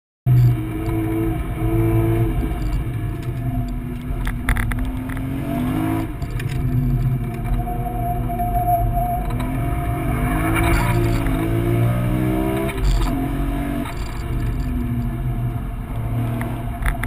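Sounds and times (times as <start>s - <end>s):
muffled car engine: 0.3s - 17.0s.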